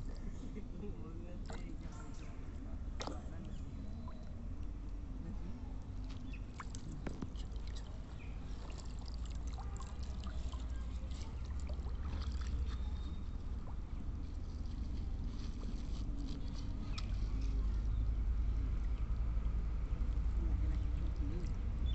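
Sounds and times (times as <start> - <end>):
water sloshing and splashing: 1.3 - 21.9.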